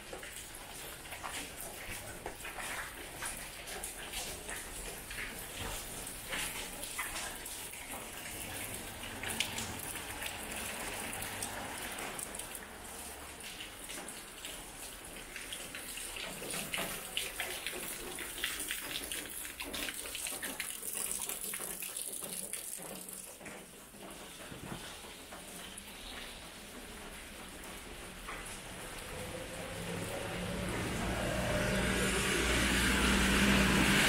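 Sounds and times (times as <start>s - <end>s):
rain dripping on concrete: 0.0s - 34.0s.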